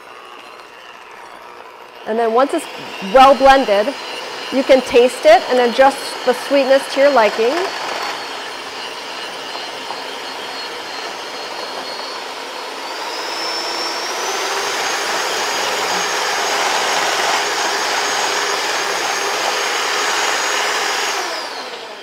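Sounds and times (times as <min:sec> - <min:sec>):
electric hand mixer whining: 0:00.0 - 0:22.0.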